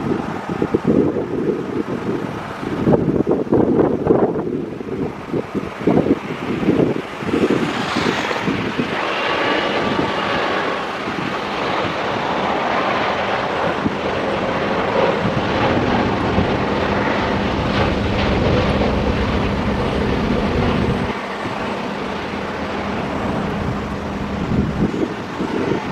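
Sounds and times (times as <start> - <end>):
jet engines rushing: 0.0 - 25.9
wind buffeting microphone: 0.0 - 25.9.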